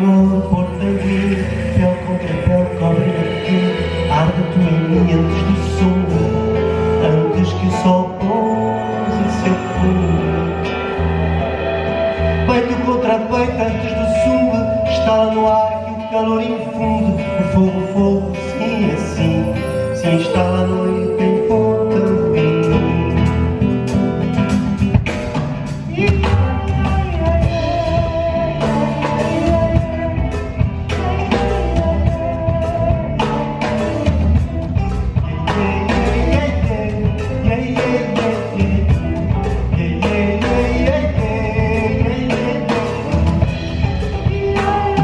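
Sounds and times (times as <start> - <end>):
live band playing: 0.0 - 45.0.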